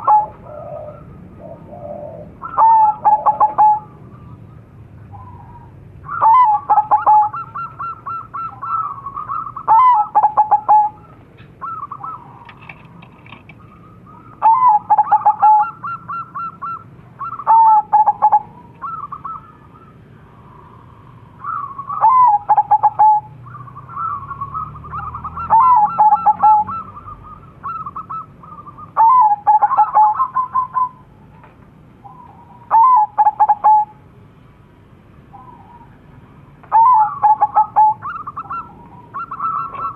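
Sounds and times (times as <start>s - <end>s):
doves cooing: 0.0s - 34.1s, 35.2s - 39.9s.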